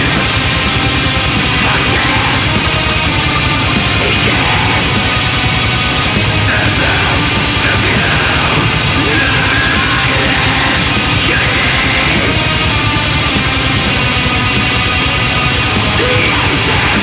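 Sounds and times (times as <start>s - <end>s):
distorted electric guitars: 0.0s - 17.0s
very fast drumming: 0.0s - 17.0s.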